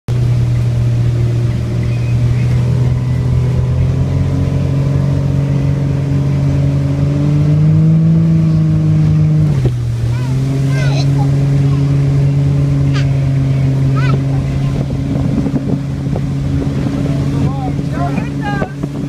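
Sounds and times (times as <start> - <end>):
motorboat engine running: 0.1 - 19.0.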